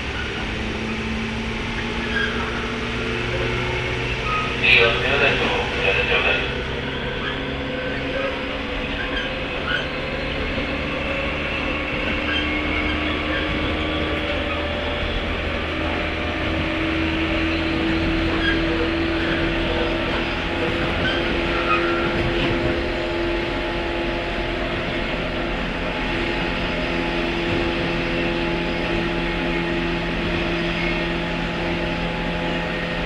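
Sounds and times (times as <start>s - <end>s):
train motor hum: 0.0s - 33.0s
train wheel and rail rumble: 0.0s - 33.0s.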